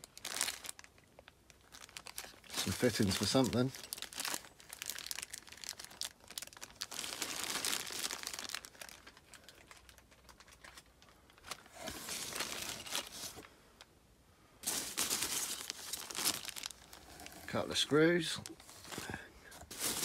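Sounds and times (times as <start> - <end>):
packing peanuts and bags rustling: 0.0 - 13.5, 14.6 - 20.0.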